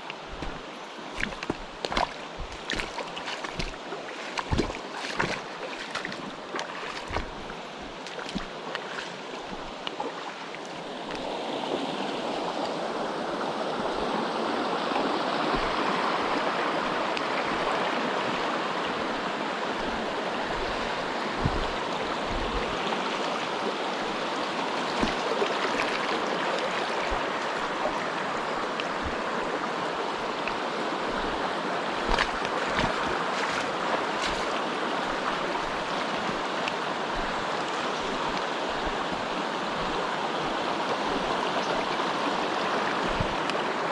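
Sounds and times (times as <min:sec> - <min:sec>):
mountain stream rushing: 0:00.0 - 0:43.9.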